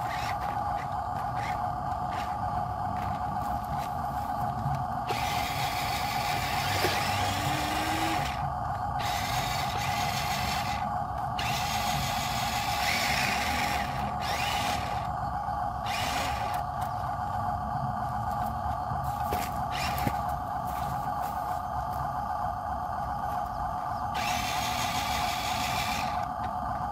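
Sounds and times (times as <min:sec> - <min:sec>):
toy truck motors whining: 0:00.0 - 0:17.6, 0:18.2 - 0:22.0, 0:22.9 - 0:26.9.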